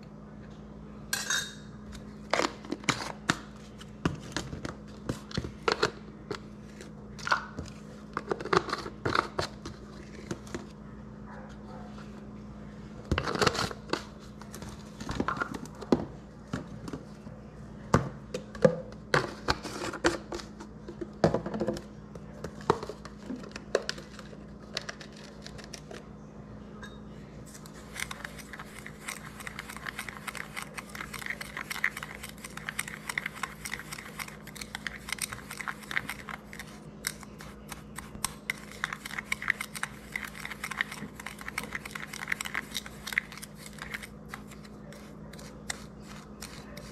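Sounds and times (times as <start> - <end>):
low electrical hum: 0.0 - 46.9.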